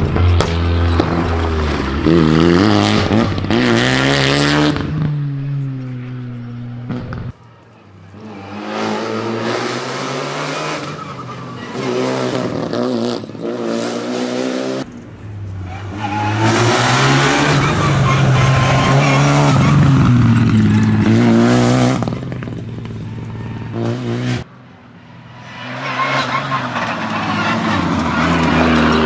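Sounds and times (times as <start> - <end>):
rally car engine revving: 0.0 - 7.4, 8.0 - 15.0, 15.6 - 24.5, 25.5 - 29.0.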